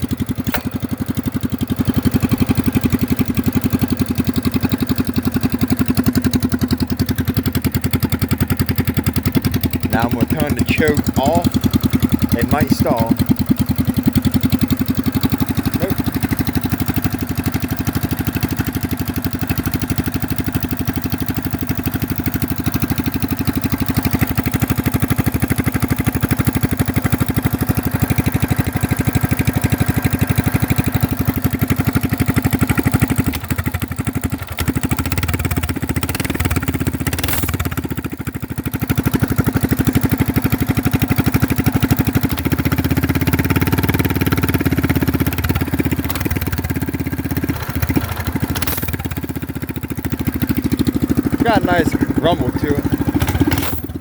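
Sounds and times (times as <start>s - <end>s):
mini bike engine idling: 0.0s - 54.0s.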